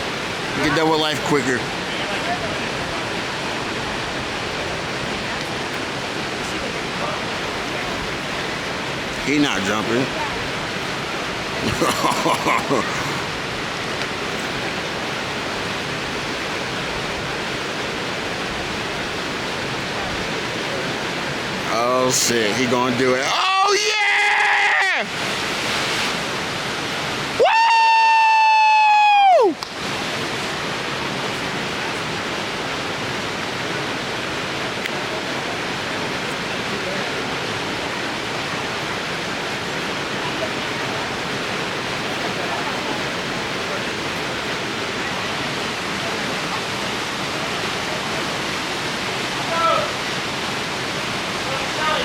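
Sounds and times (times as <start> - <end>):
river water rushing into pool: 0.0 - 52.0.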